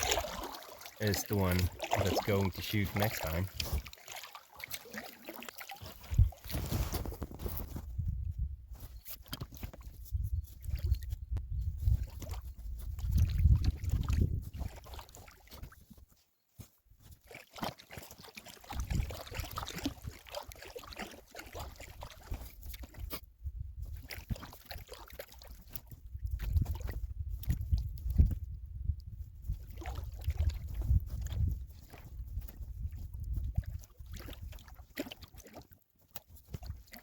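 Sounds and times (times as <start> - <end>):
paddle strokes splashing: 0.0 - 7.8, 11.8 - 28.3, 29.4 - 37.0
water trickling and sloshing: 0.0 - 37.0.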